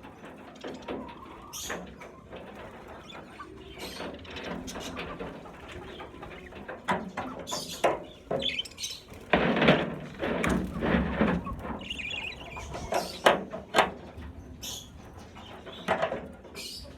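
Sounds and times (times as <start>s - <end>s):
budgerigars chirping and chattering: 0.6s - 16.9s.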